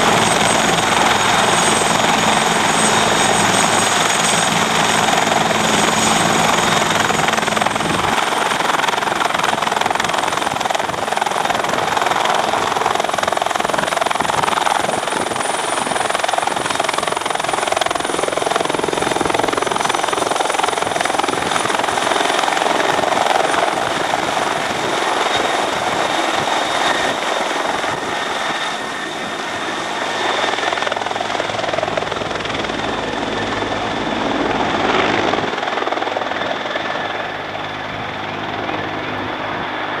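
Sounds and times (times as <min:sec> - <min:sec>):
helicopter turbines and rotor: 0:00.0 - 0:40.0.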